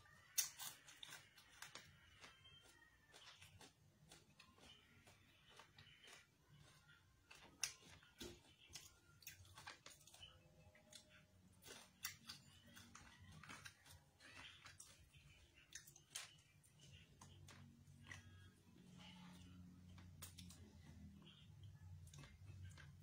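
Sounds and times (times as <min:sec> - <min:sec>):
chewing crispy chicken skin: 0:00.0 - 0:23.0.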